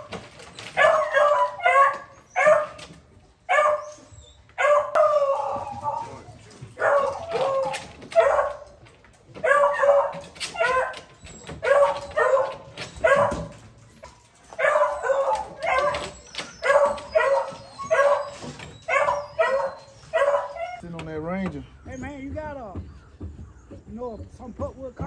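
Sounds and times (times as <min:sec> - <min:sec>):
dogs barking: 0:00.0 - 0:22.8.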